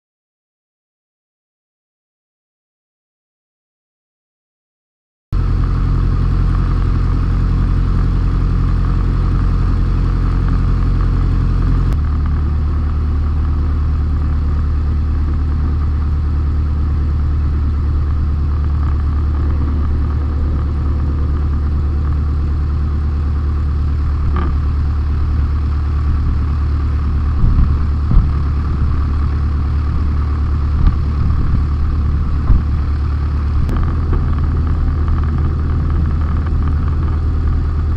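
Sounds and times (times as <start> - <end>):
aircraft piston engine: 5.4 - 37.9.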